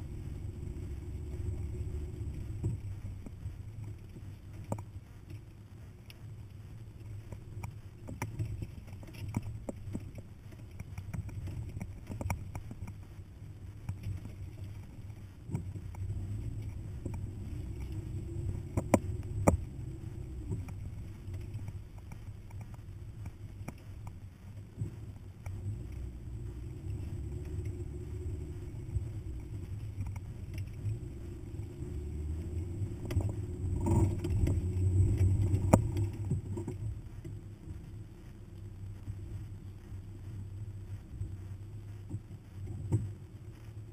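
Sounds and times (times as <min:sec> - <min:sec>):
low engine drone: 0:00.0 - 0:43.9.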